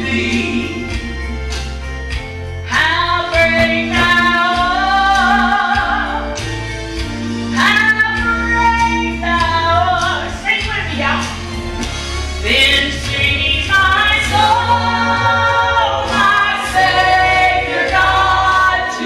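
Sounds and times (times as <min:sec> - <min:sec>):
woman singing gospel with vibrato: 0:00.0 - 0:01.6, 0:02.7 - 0:06.5, 0:07.5 - 0:11.0, 0:12.4 - 0:19.0
instrumental accompaniment with bass: 0:00.0 - 0:19.0.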